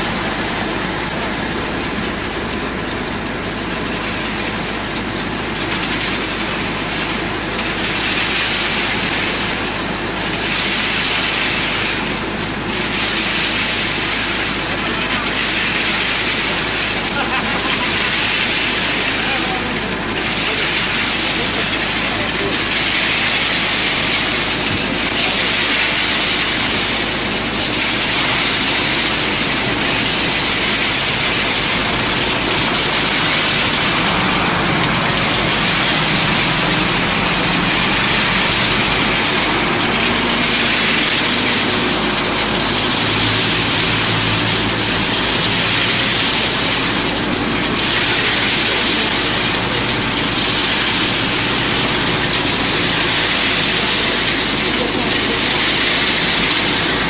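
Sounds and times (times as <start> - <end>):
gravel spilling: 0.0 - 57.0
machine rushing and hissing: 6.5 - 57.0.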